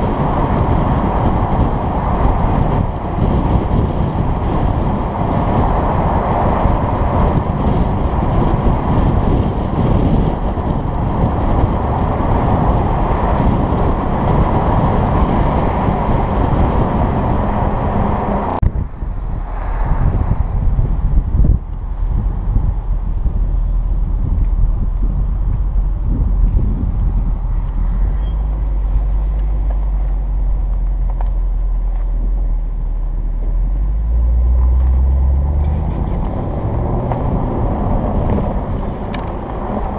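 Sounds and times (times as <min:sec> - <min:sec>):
car exhaust running: 0:00.0 - 0:39.9
wind rush on microphone: 0:00.0 - 0:39.9.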